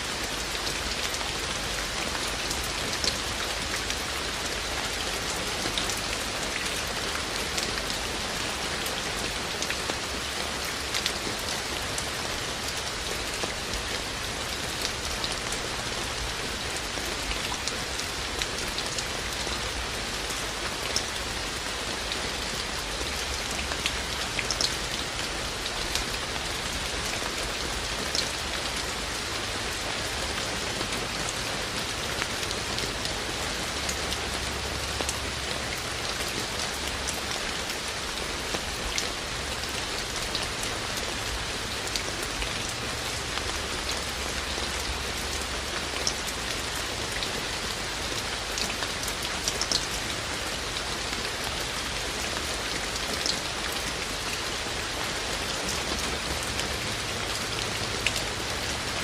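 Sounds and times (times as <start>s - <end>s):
sharp clicks of raindrops: 0.0s - 59.0s
steady rain falling: 0.0s - 59.0s.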